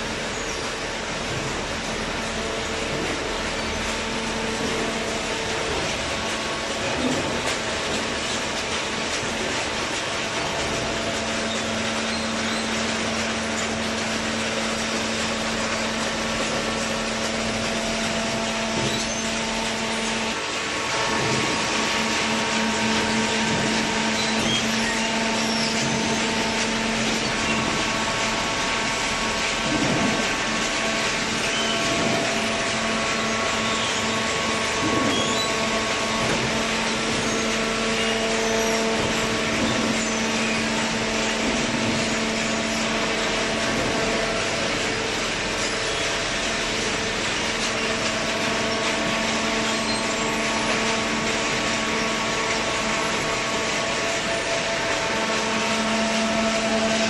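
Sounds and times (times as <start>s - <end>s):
hydraulic baler humming and whining: 0.0s - 57.0s.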